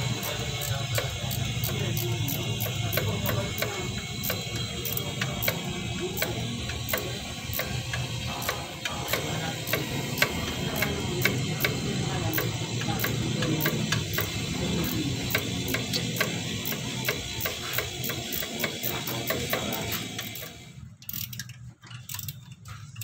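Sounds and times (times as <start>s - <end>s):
ratchet wrench clicking: 0.0s - 23.0s.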